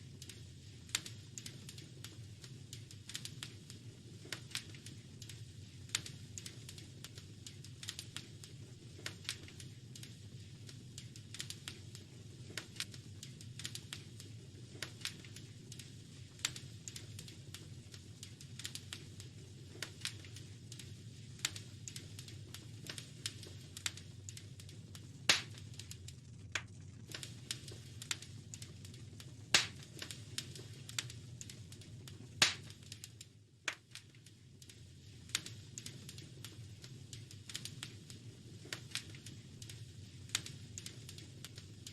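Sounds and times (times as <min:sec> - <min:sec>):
fire crackling: 0:00.0 - 0:41.9.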